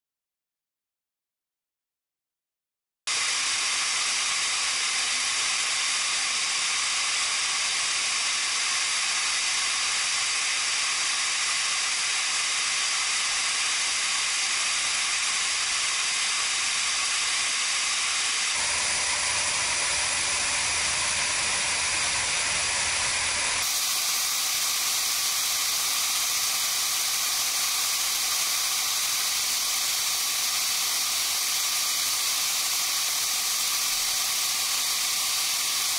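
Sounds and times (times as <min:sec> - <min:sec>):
lathe cutting metal hiss: 0:03.1 - 0:35.9.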